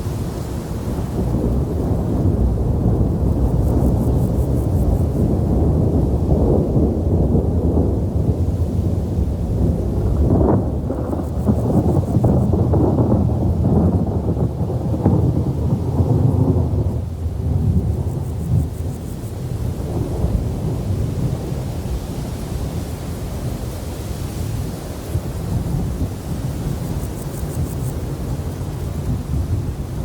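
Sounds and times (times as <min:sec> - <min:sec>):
rolling thunder: 0:00.0 - 0:23.7, 0:24.4 - 0:30.0.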